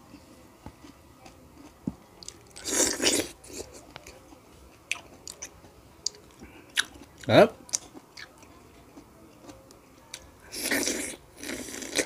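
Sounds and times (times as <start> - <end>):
person chewing juicy fruit: 0.6 - 12.0.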